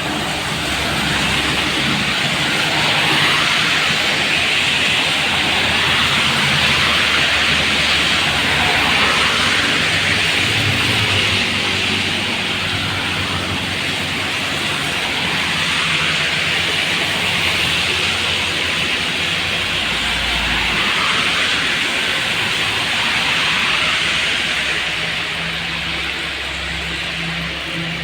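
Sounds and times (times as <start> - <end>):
tyres on wet road: 0.0 - 28.0
vehicle engines passing: 0.0 - 28.0.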